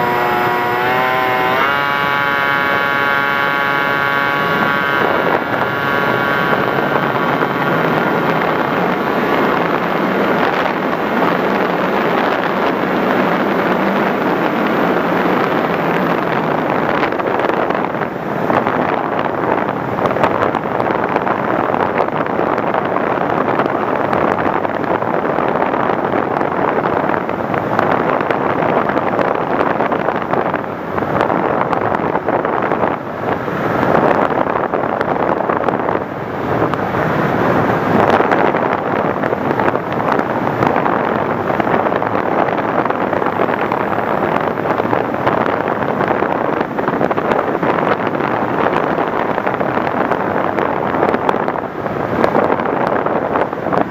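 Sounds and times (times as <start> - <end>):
wind over microphone: 0.0 - 53.9.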